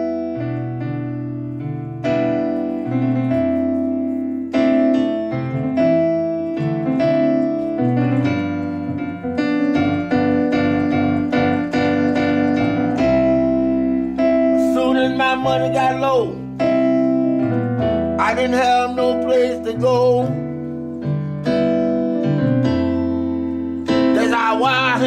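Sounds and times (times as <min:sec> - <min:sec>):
bluesy piano chords and bass line: 0:00.0 - 0:25.0.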